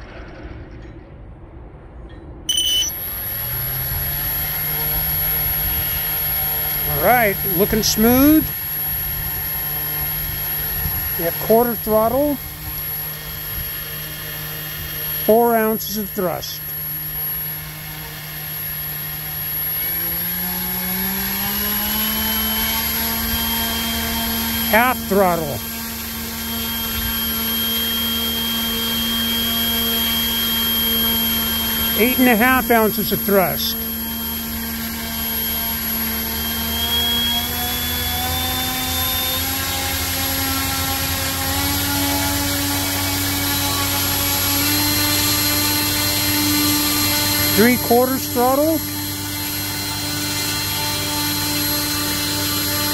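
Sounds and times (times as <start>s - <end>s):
electric motor propeller hum: 2.5s - 52.9s.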